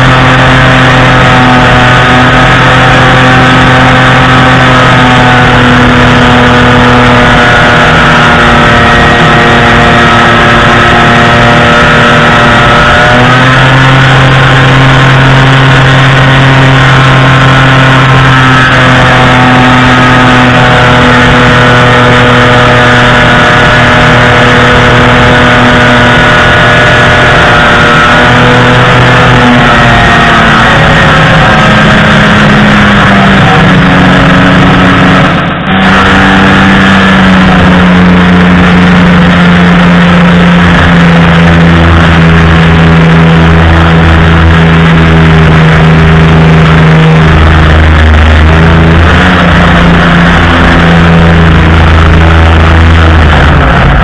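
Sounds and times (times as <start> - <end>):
aircraft two-stroke engine running: 0.0 - 54.0.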